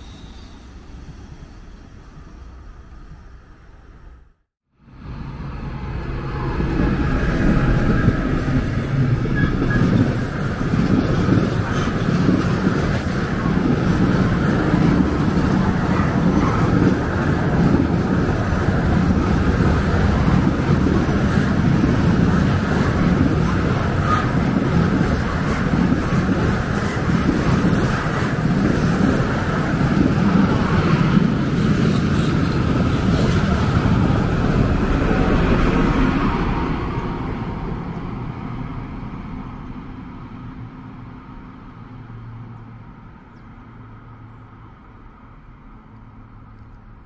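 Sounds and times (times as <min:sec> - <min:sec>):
train rumbling past: 0:00.0 - 0:47.0.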